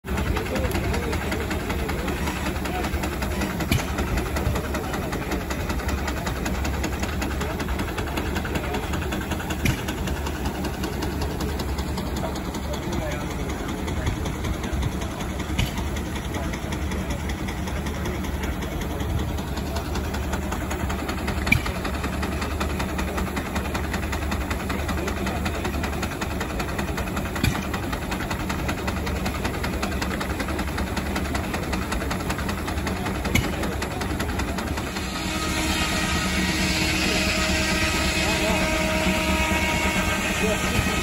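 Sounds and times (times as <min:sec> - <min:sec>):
steam traction engine running: 0:00.0 - 0:41.0.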